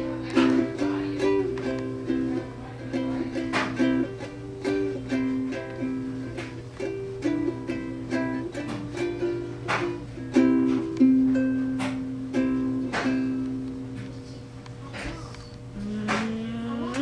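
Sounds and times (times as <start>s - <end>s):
plucked string instrument music: 0.0s - 14.4s.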